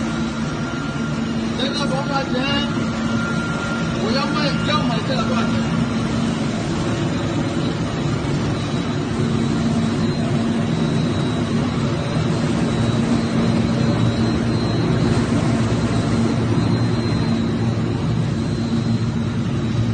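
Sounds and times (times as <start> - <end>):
factory machinery droning: 0.0 - 19.9.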